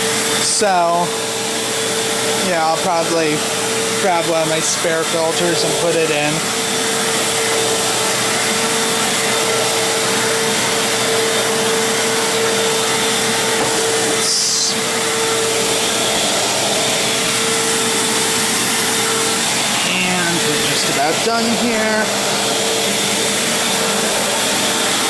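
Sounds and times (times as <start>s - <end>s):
vacuum cleaner on carpet: 0.0s - 25.0s.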